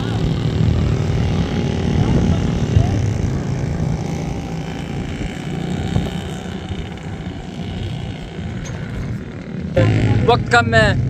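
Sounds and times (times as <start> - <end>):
microlight engine and propeller droning: 0.0 - 11.0.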